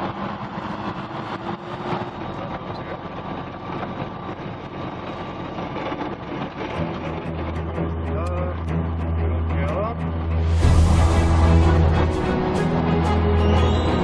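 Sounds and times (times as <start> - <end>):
propeller engine running: 0.0 - 14.0.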